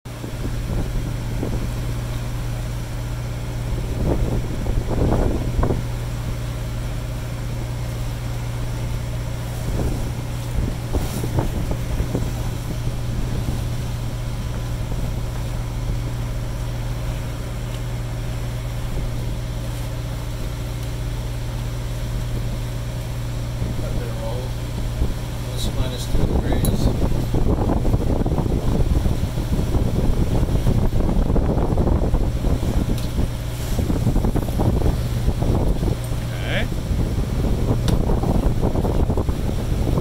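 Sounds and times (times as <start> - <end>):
wind: 0.0 - 40.0
boat engine droning: 0.1 - 40.0
water rushing: 0.1 - 40.0.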